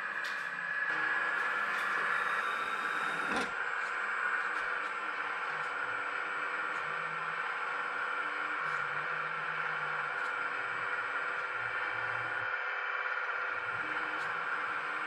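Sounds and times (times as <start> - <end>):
hydraulic pump whirring: 0.0 - 15.0.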